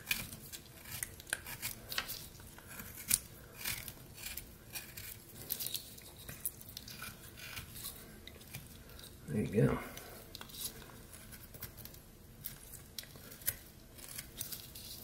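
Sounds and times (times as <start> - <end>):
knife scraping wood: 0.0 - 15.0.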